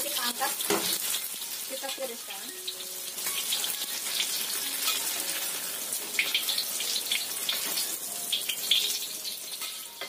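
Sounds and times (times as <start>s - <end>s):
deep-frying sizzle and pops: 0.0s - 10.0s.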